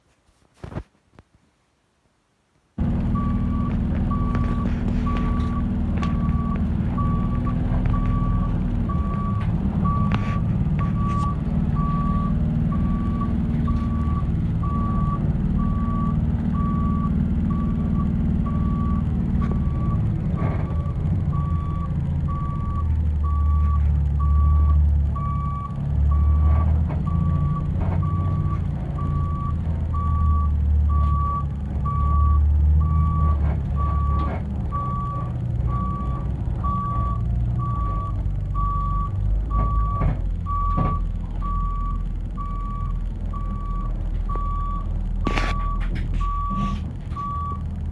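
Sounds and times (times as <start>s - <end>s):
reversing alarm beeping: 2.8s - 47.7s
bus engine running: 2.8s - 47.9s.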